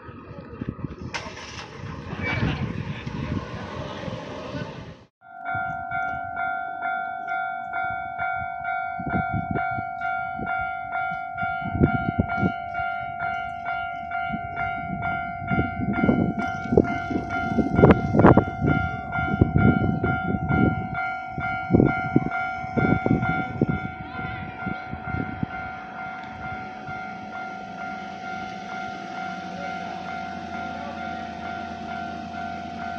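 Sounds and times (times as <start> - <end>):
level crossing alarm ringing: 5.2 - 32.9.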